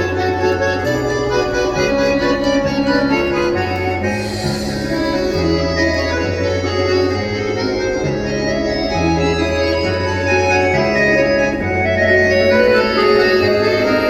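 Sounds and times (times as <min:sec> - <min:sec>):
dance music on organ keyboard: 0:00.0 - 0:14.0.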